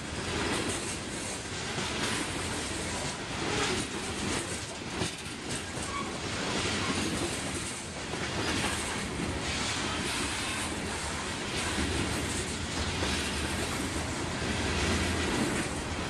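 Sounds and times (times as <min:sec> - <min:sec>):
train wheels rumbling on rails: 0:00.0 - 0:16.0
wheels clacking over rail joints: 0:00.2 - 0:16.0.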